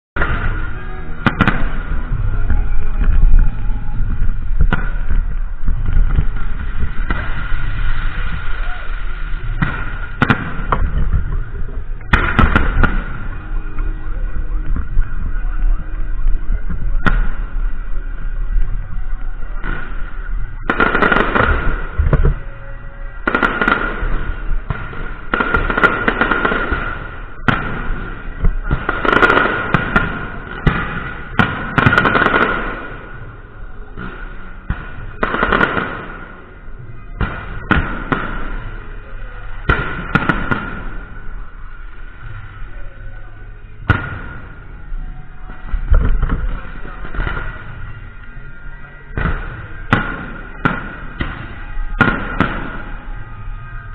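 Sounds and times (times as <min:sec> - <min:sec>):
fireworks crackling bursts: 0:00.2 - 0:53.9.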